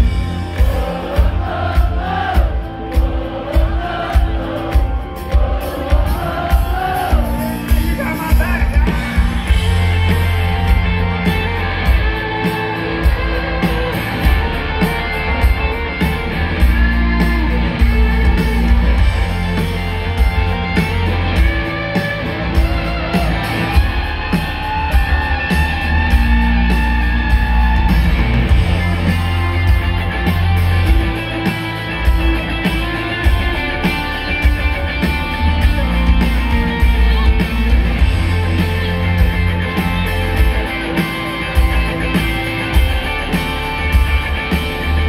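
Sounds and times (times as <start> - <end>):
electric guitars: 0.0 - 45.0
live rock band: 0.0 - 45.0.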